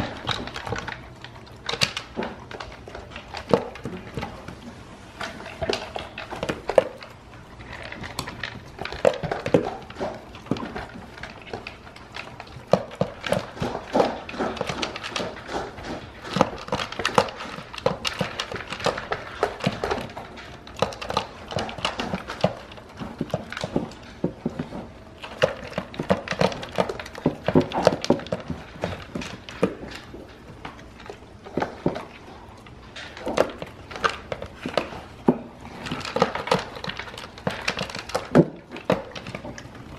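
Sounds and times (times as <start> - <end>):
dog licking food from plastic bowl: 5.2 - 39.9.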